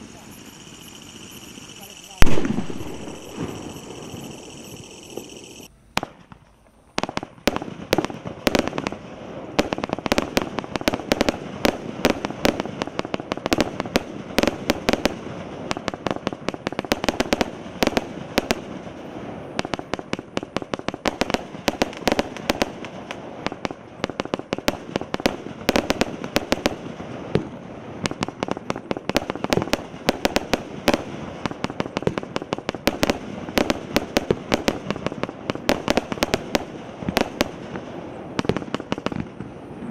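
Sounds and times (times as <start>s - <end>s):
fireworks rapid shots and bursts: 0.0s - 39.9s.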